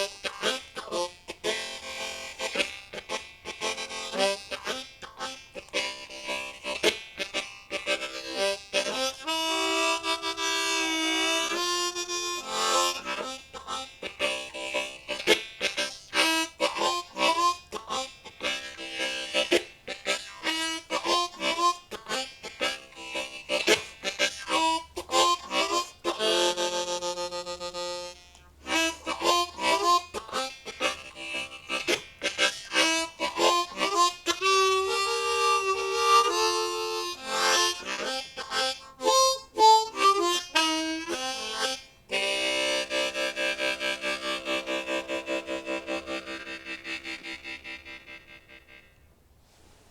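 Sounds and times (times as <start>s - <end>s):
blues harmonica chords: 0.0s - 49.2s.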